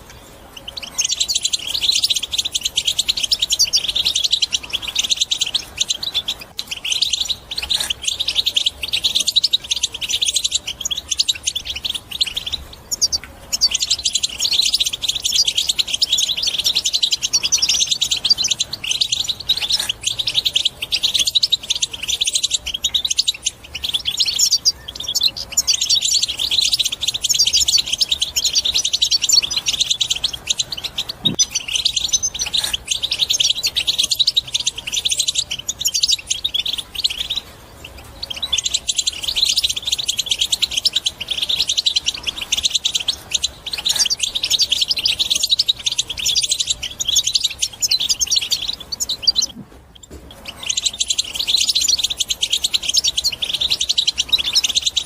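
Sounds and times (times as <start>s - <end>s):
goldfinch twittering song: 0.0s - 55.0s.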